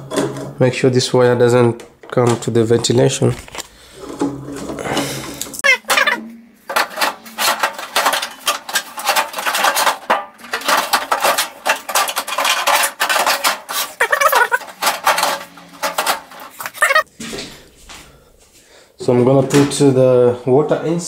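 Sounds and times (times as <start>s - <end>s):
sheet metal rattling and scraping: 0.0s - 17.1s.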